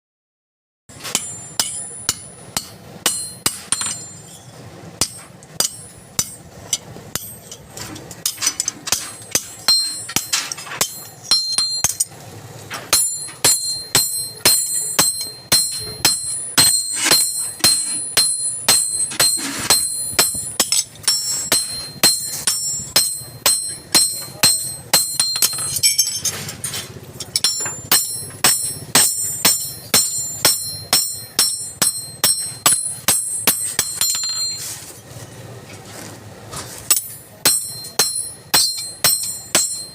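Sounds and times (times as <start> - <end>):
hammer striking steel: 0.9 - 34.8, 36.9 - 39.9.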